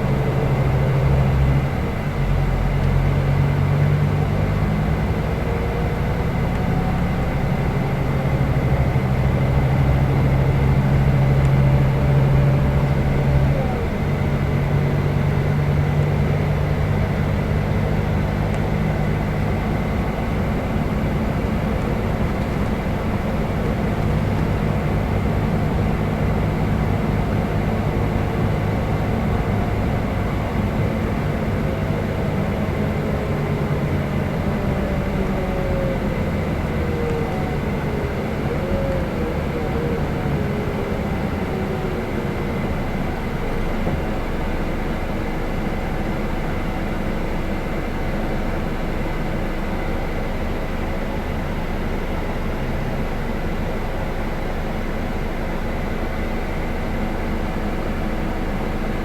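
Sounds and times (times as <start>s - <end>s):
coach engine drone: 0.0s - 59.0s
road noise: 0.0s - 59.0s.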